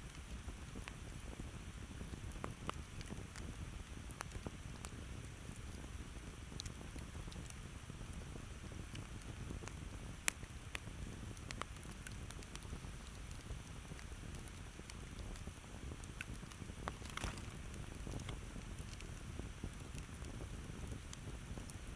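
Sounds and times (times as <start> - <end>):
campfire crackling and popping: 0.0 - 21.9.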